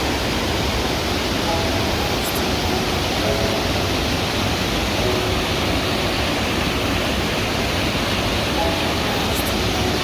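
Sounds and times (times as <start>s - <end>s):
rushing water: 0.0s - 10.0s
soft musical tones: 0.1s - 10.0s.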